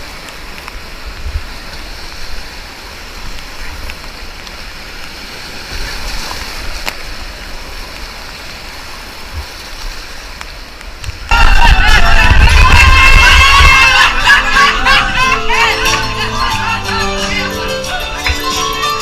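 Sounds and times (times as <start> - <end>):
whitewater rapids rushing: 0.0 - 19.0.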